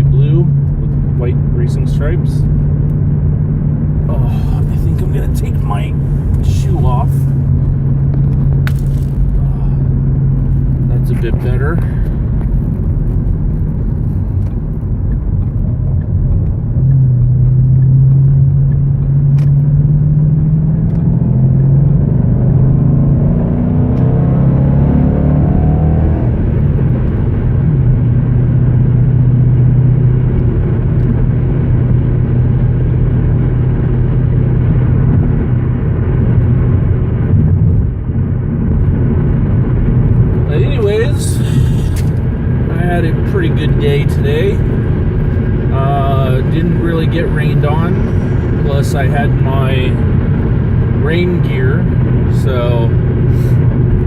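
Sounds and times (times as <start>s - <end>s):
car engine from inside cabin: 0.0s - 54.0s.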